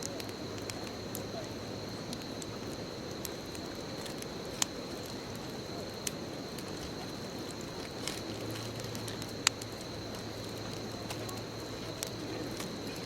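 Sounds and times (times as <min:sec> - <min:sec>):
bonfire crackling and hissing: 0:00.0 - 0:13.0.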